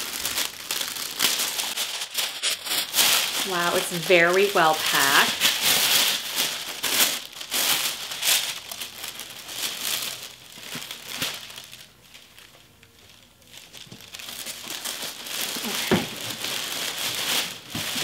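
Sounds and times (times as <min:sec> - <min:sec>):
tissue paper crinkling: 0:00.0 - 0:18.0.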